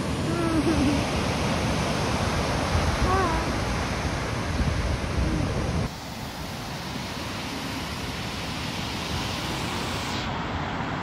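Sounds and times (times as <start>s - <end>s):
quiet steady rushing background: 0.0s - 11.0s
surf breaking on a beach: 0.0s - 11.0s.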